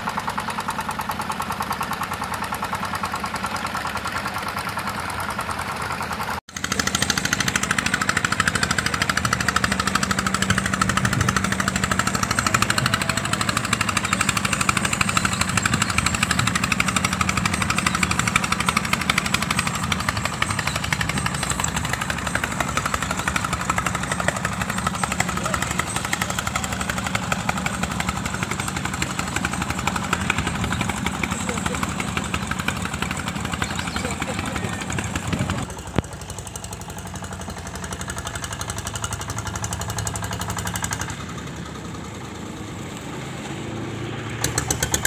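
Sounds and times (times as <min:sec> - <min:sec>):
boat engines knocking: 0:00.0 - 0:42.9, 0:44.3 - 0:45.0.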